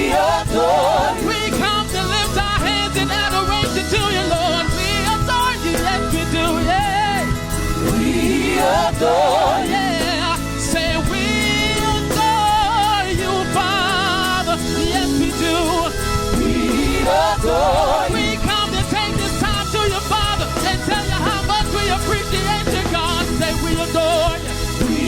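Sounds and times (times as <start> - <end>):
choir singing: 0.0 - 4.7, 6.5 - 22.0, 22.6 - 25.0
band with keyboard and bass: 0.0 - 25.0
lead singer with vibrato: 0.0 - 25.0
steady drum beat: 0.0 - 25.0.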